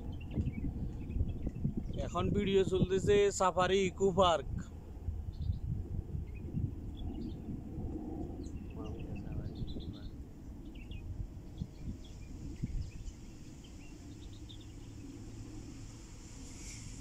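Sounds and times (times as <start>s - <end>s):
sparrows chirping: 0.0s - 2.8s, 5.3s - 7.6s, 8.3s - 17.0s
low background rumble: 0.0s - 17.0s.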